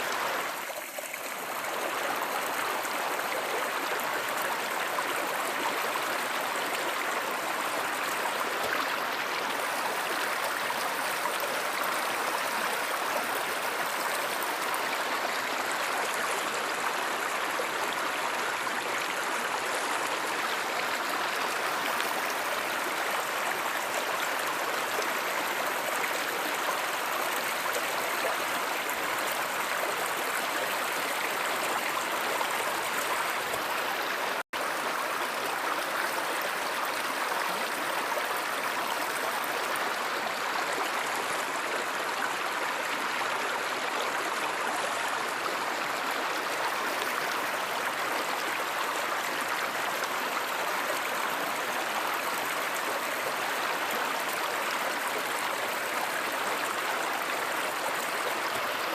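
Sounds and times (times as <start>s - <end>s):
river water over stones: 0.0s - 58.9s.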